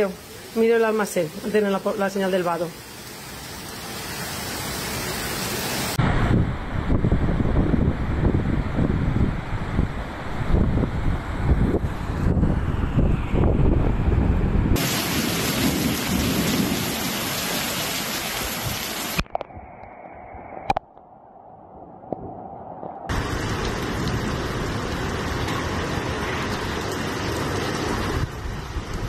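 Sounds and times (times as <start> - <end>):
heavy rain pouring: 0.0 - 19.4, 23.1 - 29.0.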